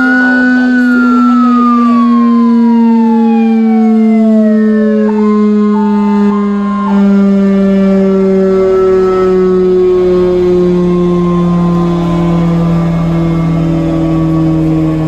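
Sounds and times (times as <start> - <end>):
low siren wail: 0.0 - 15.0
two-tone siren: 0.0 - 15.0.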